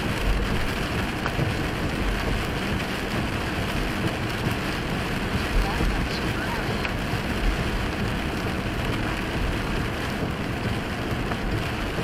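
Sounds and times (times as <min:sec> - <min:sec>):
rain on windshield: 0:00.0 - 0:12.0.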